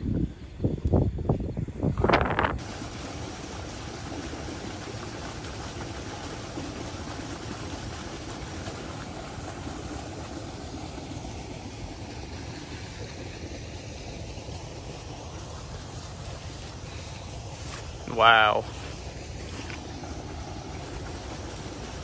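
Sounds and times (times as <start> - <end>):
water pouring into a creek: 2.2 - 22.0.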